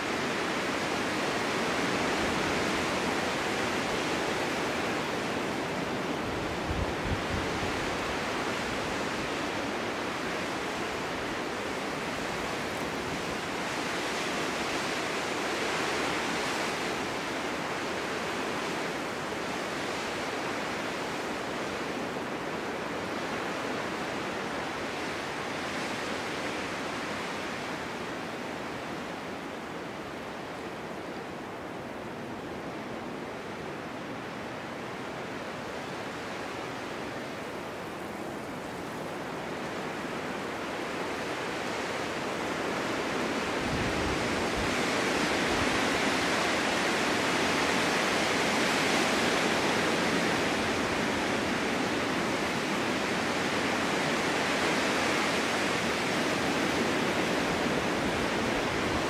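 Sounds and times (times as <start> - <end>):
snowstorm wind rushing: 0.0 - 32.8, 33.4 - 59.0.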